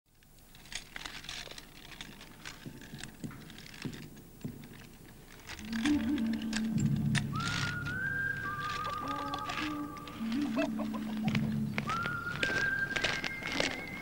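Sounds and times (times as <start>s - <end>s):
toy tractor clicks and scrapes: 0.1s - 14.0s
steady low hum: 0.2s - 14.0s.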